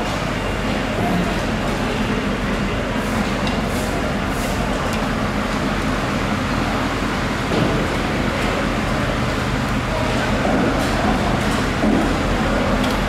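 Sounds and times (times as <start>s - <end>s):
mechanical rumble and hum: 0.0s - 13.0s.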